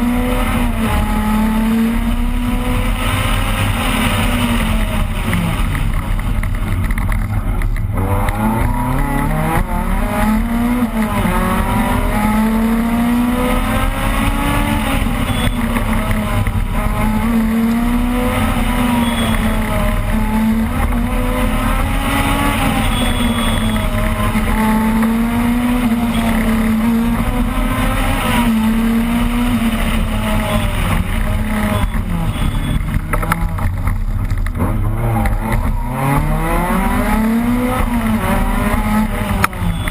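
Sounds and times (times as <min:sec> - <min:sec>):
rally car engine at high revs: 0:00.0 - 0:39.9.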